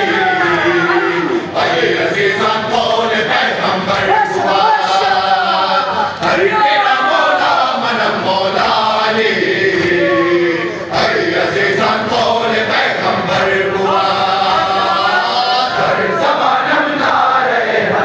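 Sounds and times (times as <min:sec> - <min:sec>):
crowd chanting a lament: 0:00.0 - 0:18.0.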